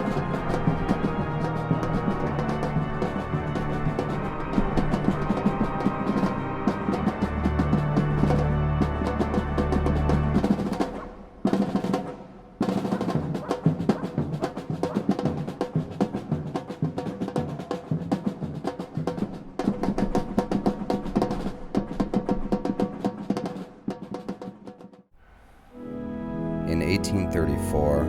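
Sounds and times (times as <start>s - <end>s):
music with fast drumming: 0.0s - 25.0s.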